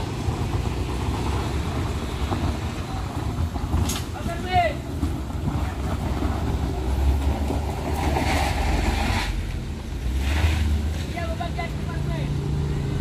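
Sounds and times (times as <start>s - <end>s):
tyres rushing on gravel: 0.0s - 12.3s
engine rumbling under load: 0.0s - 13.0s.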